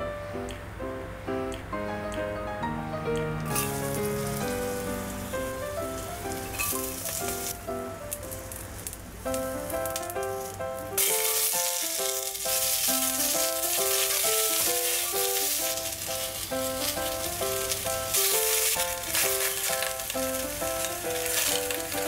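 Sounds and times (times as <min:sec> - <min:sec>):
background music: 0:00.0 - 0:08.5, 0:09.3 - 0:22.0
onions sizzling in hot oil: 0:03.5 - 0:07.6, 0:08.3 - 0:22.0.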